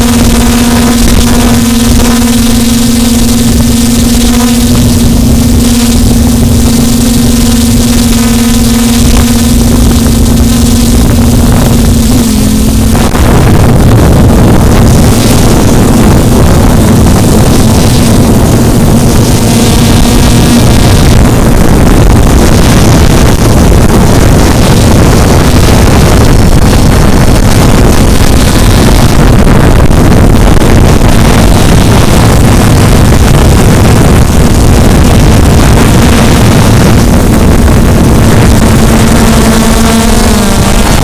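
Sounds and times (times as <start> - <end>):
quadcopter motors humming: 0.0 - 41.0
wind rushing on microphone: 0.0 - 41.0.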